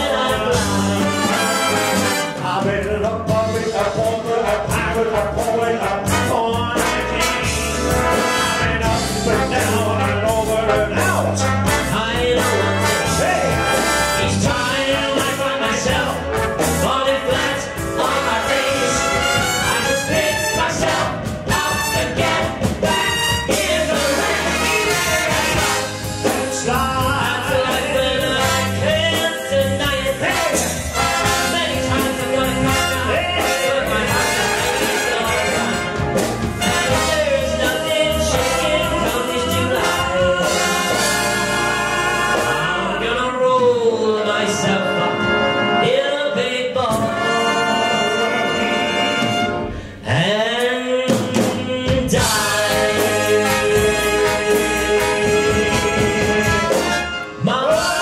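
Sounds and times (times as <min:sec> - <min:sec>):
men singing: 0:00.0 - 0:58.0
swing big band playing: 0:00.0 - 0:58.0.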